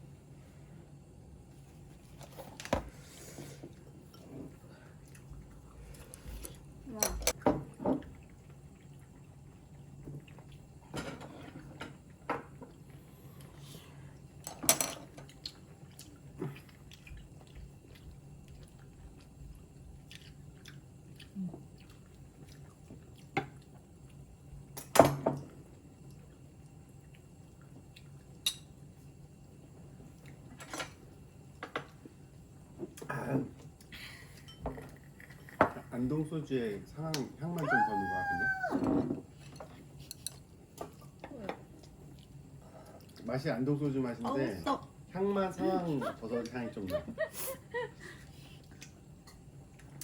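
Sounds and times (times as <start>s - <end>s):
low steady hum: 0.0s - 50.0s.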